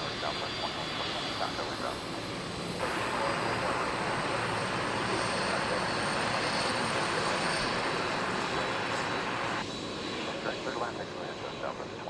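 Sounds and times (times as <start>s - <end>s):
jet engines of airliner: 0.0s - 12.0s.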